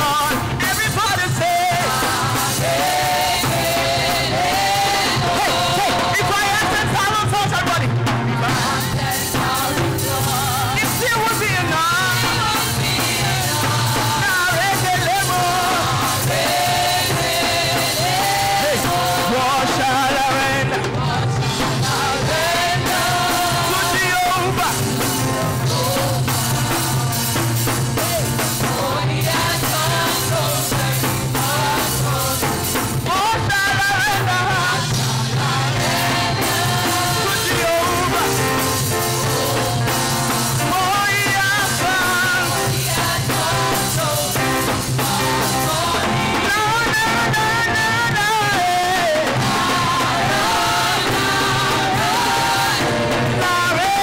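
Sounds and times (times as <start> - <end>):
group of singers: 0.0 - 54.0
live band playing worship music: 0.0 - 54.0.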